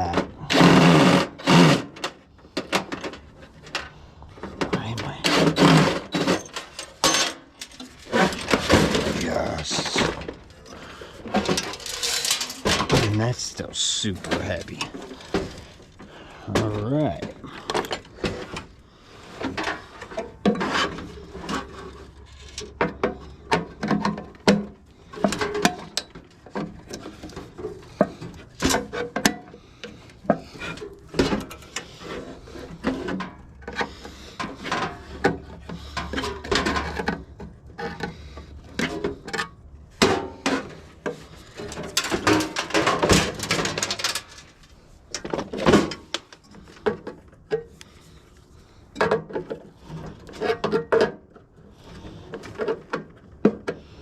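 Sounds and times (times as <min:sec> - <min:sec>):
metal parts clanking and scraping: 0:00.0 - 0:18.7, 0:19.3 - 0:53.9.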